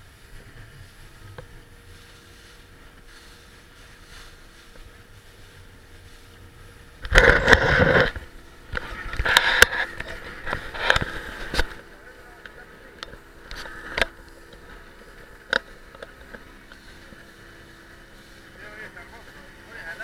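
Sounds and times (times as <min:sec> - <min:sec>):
boat background noise: 0:00.0 - 0:20.0.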